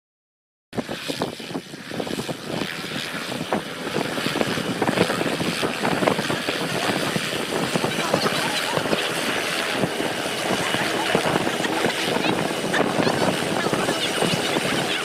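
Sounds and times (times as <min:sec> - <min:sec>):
propeller aircraft drone: 0:00.8 - 0:15.0.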